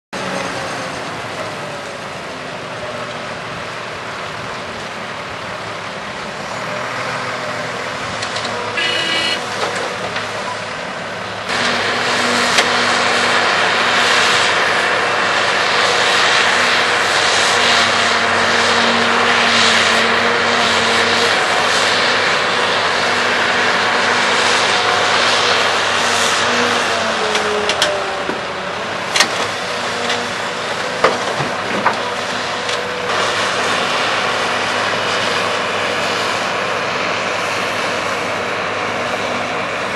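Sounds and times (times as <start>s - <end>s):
heavy diesel machinery running: 0.1s - 39.9s.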